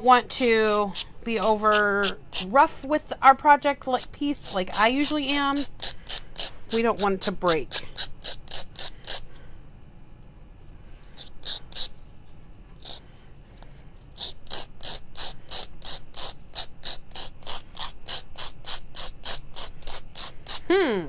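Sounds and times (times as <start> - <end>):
nail file scraping paper: 0.0 - 9.3, 11.0 - 20.7.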